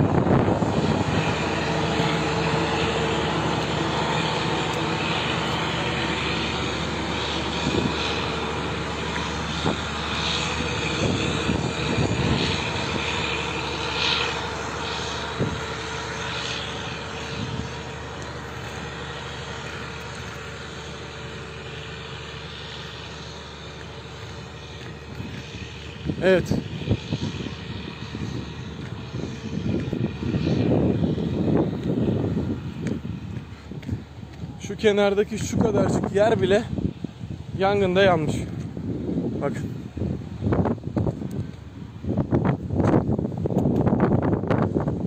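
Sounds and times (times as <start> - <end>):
propeller aircraft engine drone: 0.0 - 45.0.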